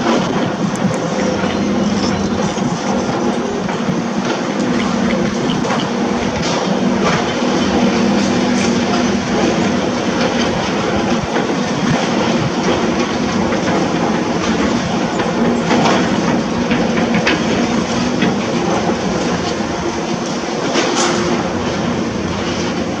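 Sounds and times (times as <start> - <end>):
diesel engine running: 0.0 - 23.0
machinery clanks and knocks: 0.0 - 23.0.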